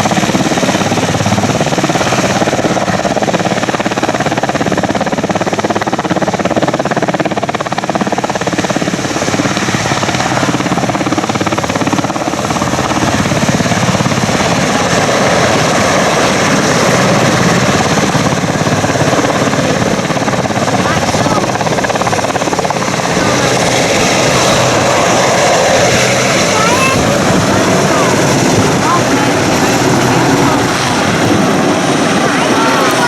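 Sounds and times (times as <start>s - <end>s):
helicopter engine whine: 0.0s - 33.0s
helicopter rotor chop: 0.0s - 33.0s.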